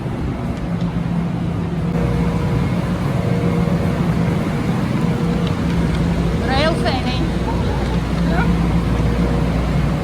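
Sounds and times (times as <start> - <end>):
high steady whine: 0.0 - 10.0
train rumble with motor hum: 0.0 - 10.0.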